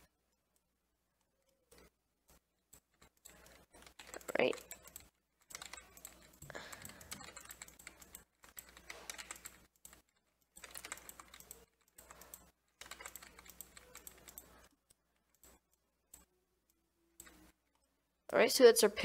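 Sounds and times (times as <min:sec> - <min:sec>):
keyboard typing: 0:00.0 - 0:17.9.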